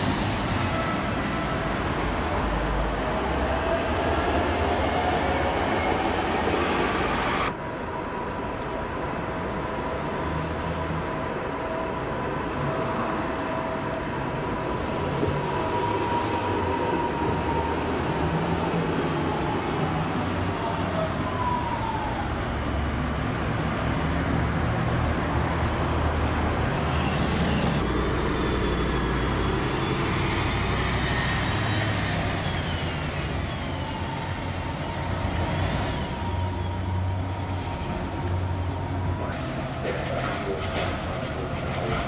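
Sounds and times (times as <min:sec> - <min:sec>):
tram rumbling along street: 0:00.0 - 0:42.0.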